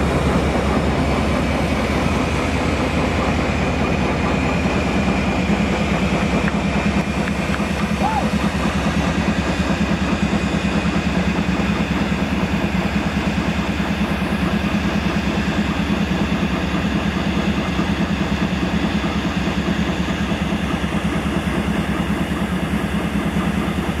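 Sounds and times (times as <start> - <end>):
diesel locomotive idling: 0.0 - 24.0.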